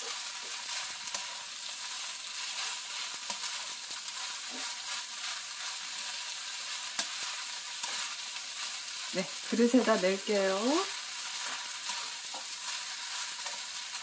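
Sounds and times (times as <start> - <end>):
rice sizzling in a hot pan: 0.0 - 14.0.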